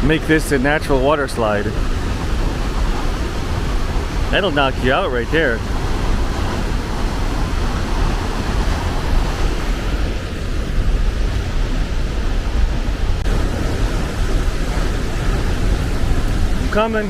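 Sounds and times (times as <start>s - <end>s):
waterfall and rushing creek: 0.0s - 17.0s.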